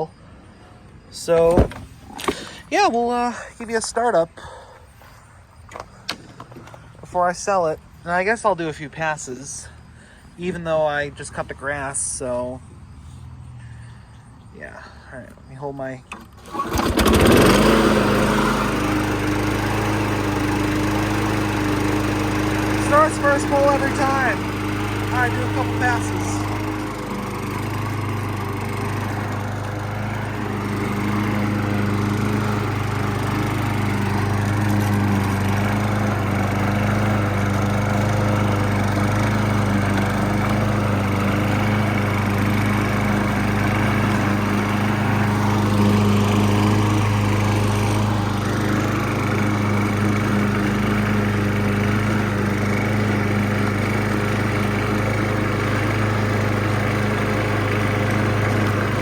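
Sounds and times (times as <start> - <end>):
lawn mower engine running: 0.9 - 59.0.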